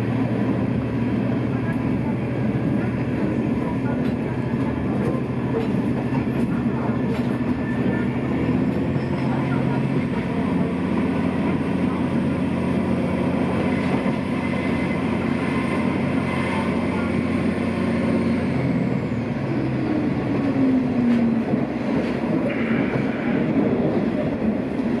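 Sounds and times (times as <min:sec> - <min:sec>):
railcar engine hum: 0:00.0 - 0:25.0.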